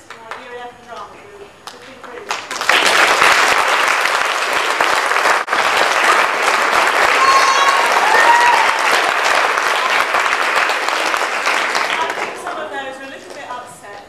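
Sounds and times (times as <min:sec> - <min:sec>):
large group applauding: 0:02.3 - 0:13.6.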